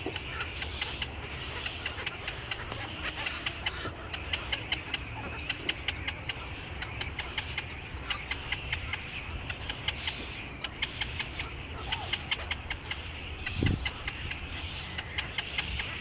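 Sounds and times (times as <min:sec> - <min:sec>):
flock of small birds chirping: 0:00.0 - 0:16.0
steady low rumble: 0:00.0 - 0:16.0.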